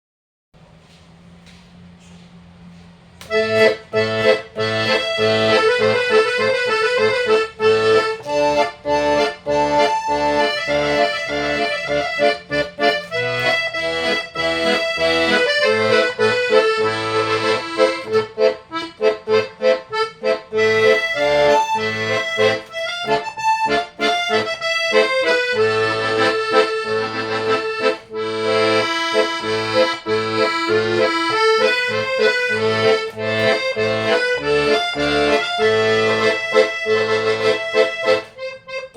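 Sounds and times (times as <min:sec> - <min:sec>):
accordion playing melody: 0:03.2 - 0:38.9.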